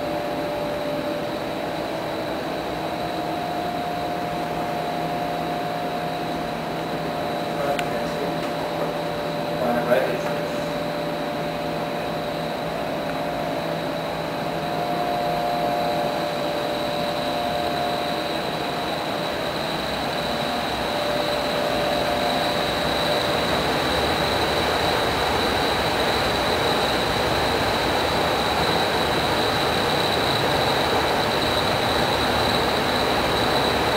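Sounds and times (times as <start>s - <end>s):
low hum: 0.0s - 29.4s
high machinery whine: 0.0s - 33.9s.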